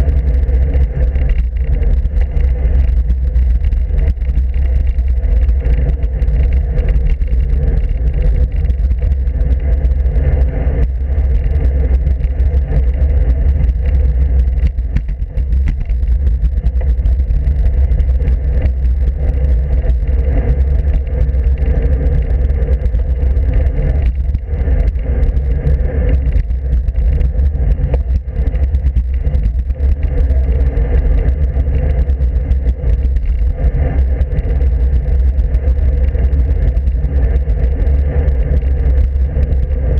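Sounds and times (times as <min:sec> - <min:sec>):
road noise: 0:00.0 - 0:39.9
wind rumbling on microphone: 0:00.0 - 0:39.9.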